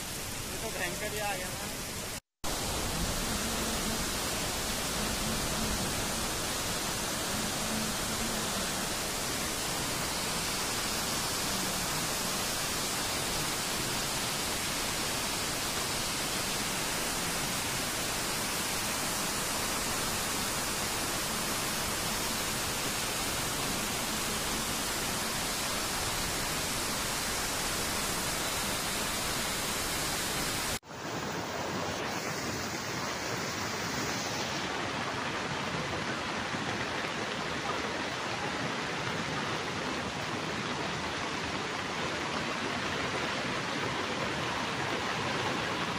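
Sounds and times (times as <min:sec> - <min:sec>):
rushing flood water: 0:00.0 - 0:45.9.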